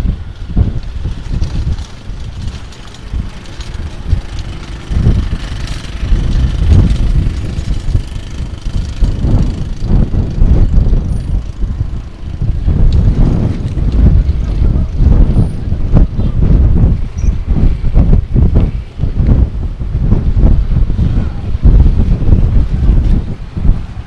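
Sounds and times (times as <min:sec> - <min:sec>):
gusty wind buffeting microphone: 0:00.0 - 0:24.0.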